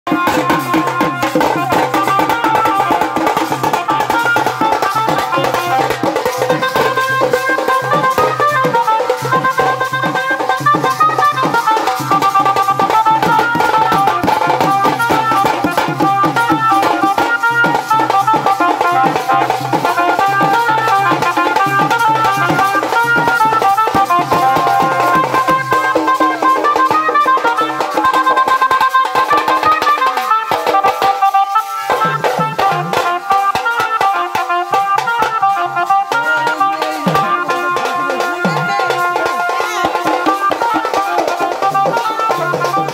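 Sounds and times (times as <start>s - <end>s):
amplified melody through loudspeakers: 0.1s - 42.9s
drums beating fast rhythm: 0.1s - 42.9s.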